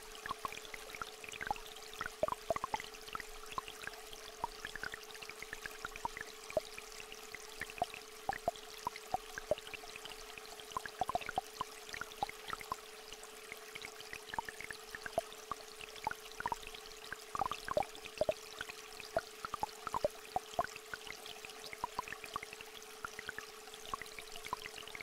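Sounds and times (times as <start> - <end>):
stream trickling: 0.0 - 25.0.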